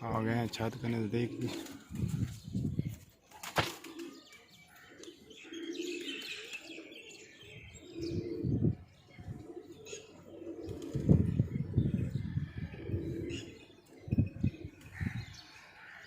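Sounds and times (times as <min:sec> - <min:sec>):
pigeons cooing: 0:00.0 - 0:16.0
small birds chirping: 0:00.0 - 0:16.0.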